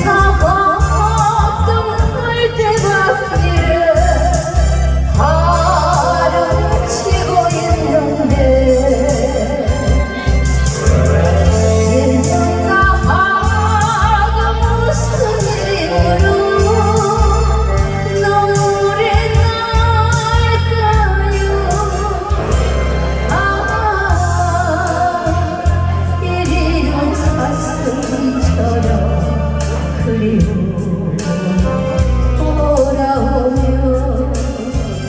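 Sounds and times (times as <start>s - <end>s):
backing track pulsing bass: 0.0s - 35.0s
woman singing ballad: 0.0s - 35.0s.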